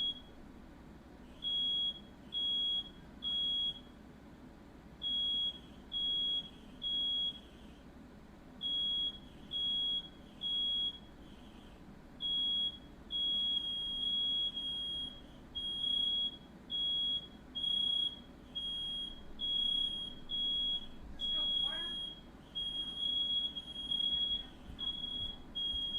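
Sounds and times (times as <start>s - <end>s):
smoke alarm beeping: 0.0s - 0.4s, 1.3s - 4.0s, 5.0s - 7.6s, 8.6s - 25.9s.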